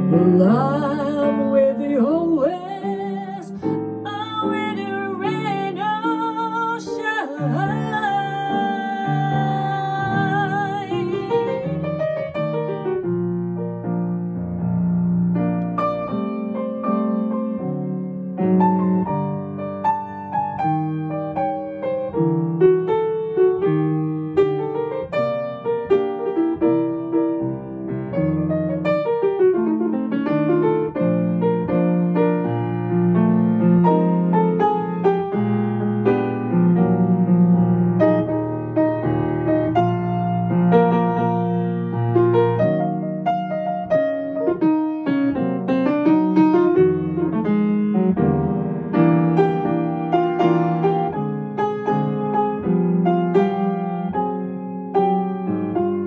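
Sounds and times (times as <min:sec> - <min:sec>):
grand piano jazz ballad: 0:00.0 - 0:56.0.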